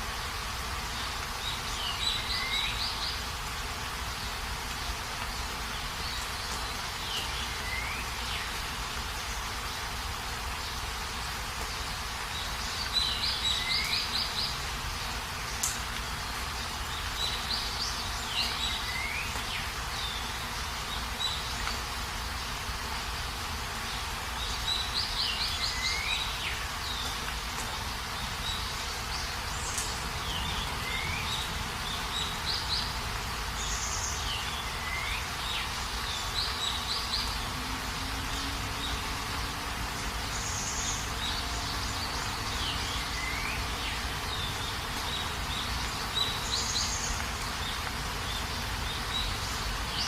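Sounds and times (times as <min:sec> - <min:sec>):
songbird singing: 0:00.0 - 0:50.0
steady rain hiss: 0:00.0 - 0:50.0.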